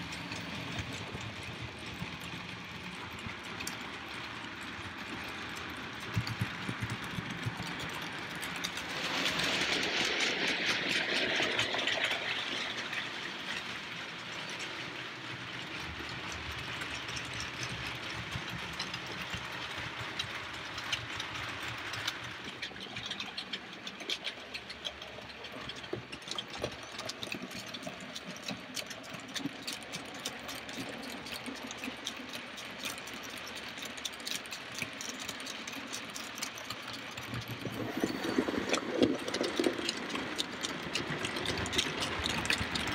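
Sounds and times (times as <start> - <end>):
model train wheels clicking on rails: 0.0 - 42.9
model train motor whirring: 2.4 - 42.9.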